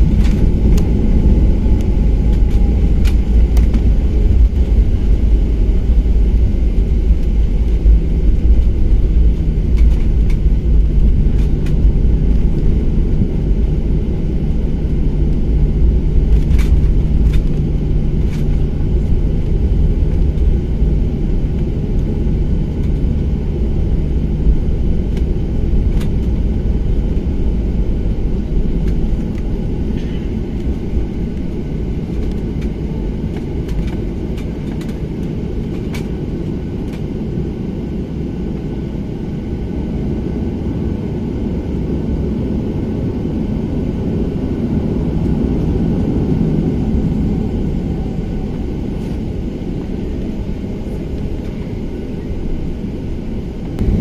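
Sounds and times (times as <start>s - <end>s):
jet engines droning: 0.0s - 54.0s
low hum: 0.0s - 54.0s.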